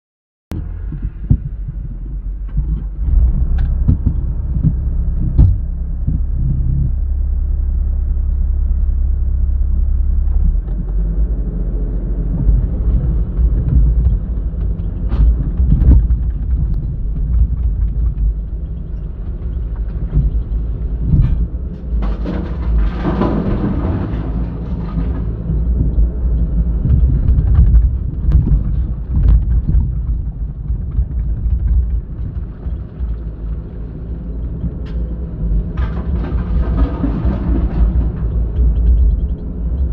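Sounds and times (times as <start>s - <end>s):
machinery knocks and clanks: 0.5s - 7.0s, 12.2s - 39.9s
diesel engine rumbling: 0.5s - 39.9s.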